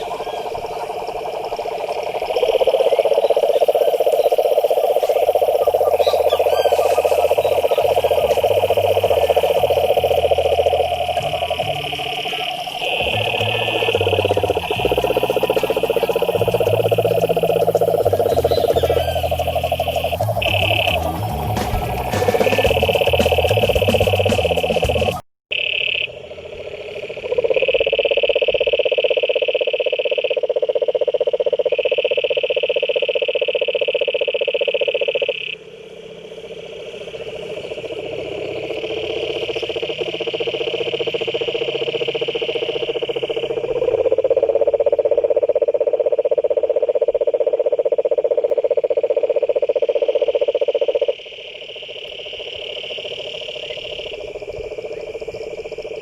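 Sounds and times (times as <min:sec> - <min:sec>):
frogs higher-pitched trill: 0:00.0 - 0:56.0
frogs low pulsing trill: 0:00.0 - 0:56.0.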